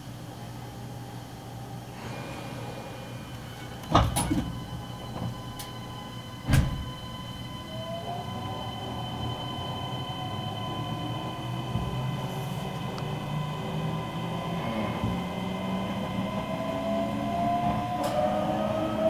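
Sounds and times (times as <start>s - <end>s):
train rumble inside passenger car: 2.6s - 19.0s.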